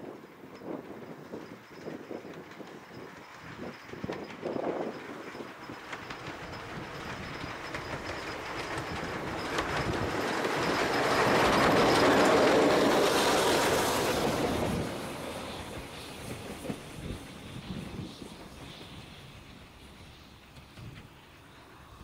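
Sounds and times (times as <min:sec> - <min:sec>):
steam train passing: 0:00.0 - 0:22.0.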